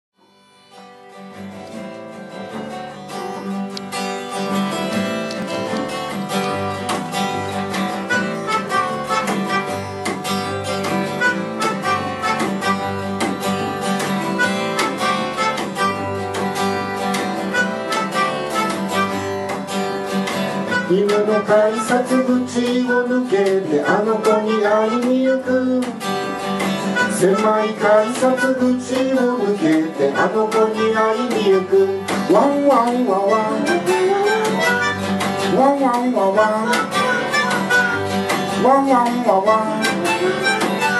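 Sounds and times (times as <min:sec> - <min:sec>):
acoustic guitar: 0:00.2 - 0:40.9
double bass: 0:02.4 - 0:40.9
melodica: 0:04.6 - 0:19.6, 0:20.3 - 0:40.9.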